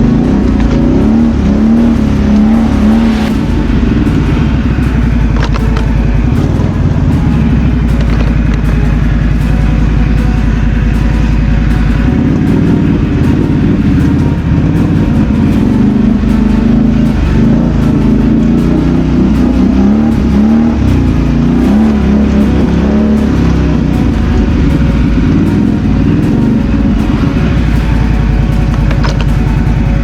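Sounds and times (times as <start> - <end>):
quad bike engine revving: 0.0 - 30.0.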